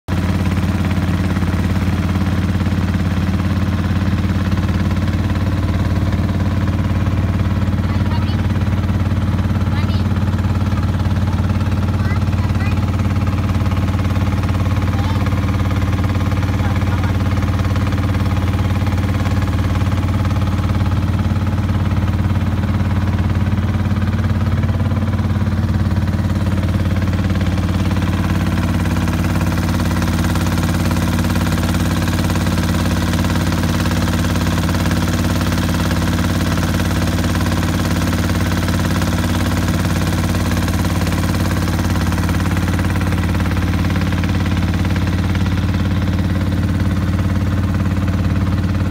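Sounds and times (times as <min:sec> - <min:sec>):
motorboat engine drone: 0:00.1 - 0:48.9.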